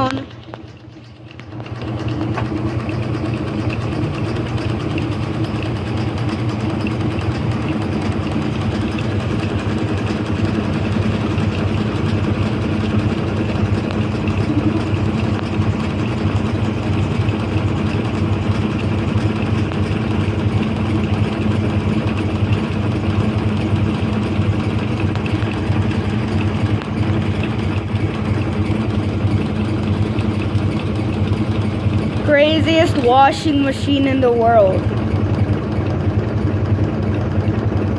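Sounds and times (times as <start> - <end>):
washing machine spinning: 0.0 - 37.9.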